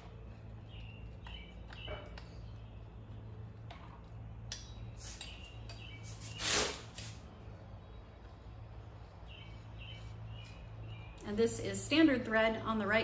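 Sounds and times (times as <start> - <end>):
low machine hum: 0.0 - 6.3, 7.2 - 13.0.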